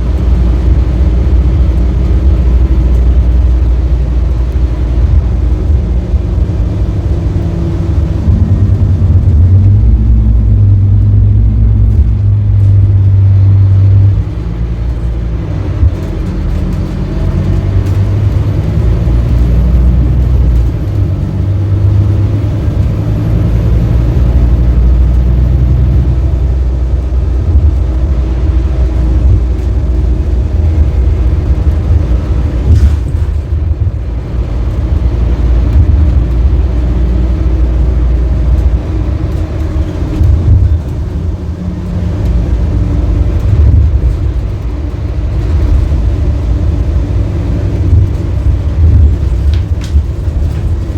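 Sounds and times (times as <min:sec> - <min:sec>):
bus diesel engine under load: 0:00.0 - 0:50.9.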